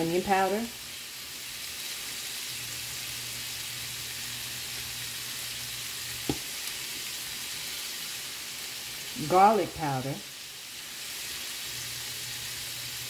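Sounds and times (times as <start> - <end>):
sausage sizzling in frying pan: 0.0 - 13.0.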